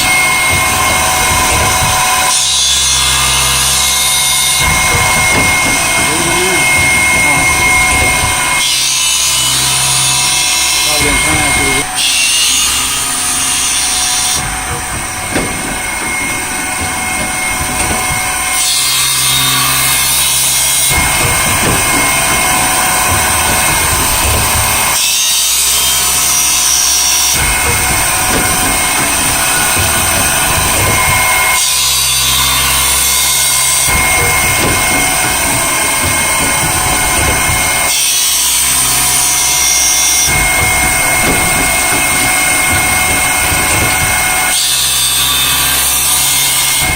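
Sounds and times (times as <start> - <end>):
grinding wheel whining: 0.0 - 46.9.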